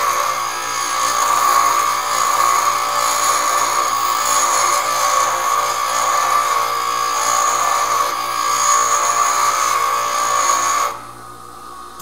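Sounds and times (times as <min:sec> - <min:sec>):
bench grinder grinding steel: 0:00.0 - 0:11.2.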